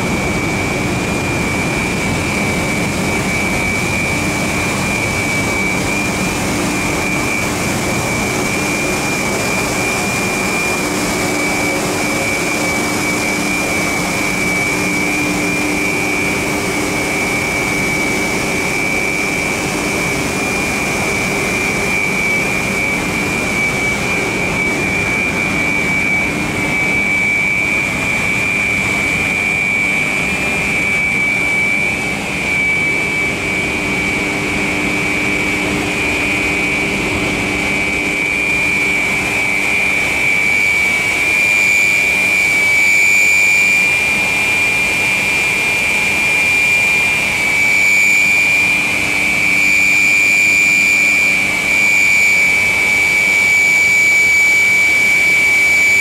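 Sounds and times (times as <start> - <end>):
high-pitched whine: 0.0 - 56.0
machinery drone: 0.0 - 56.0.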